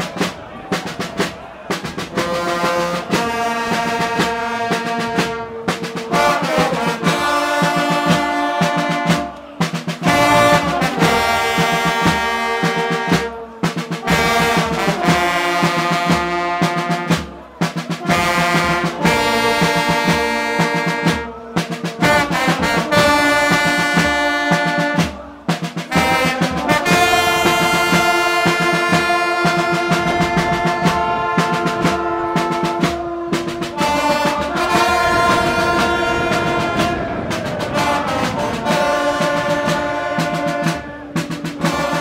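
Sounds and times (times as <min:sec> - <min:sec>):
brass band playing held chords: 0:00.0 - 0:42.0.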